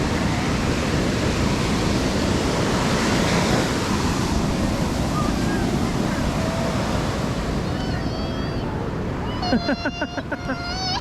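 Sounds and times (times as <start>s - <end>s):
wind rumbling on microphone: 0.0s - 9.4s
sea surf washing on beach: 0.0s - 11.0s.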